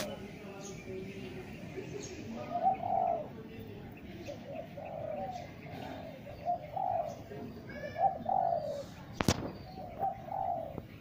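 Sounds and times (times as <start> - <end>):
dove cooing: 1.9 - 11.0.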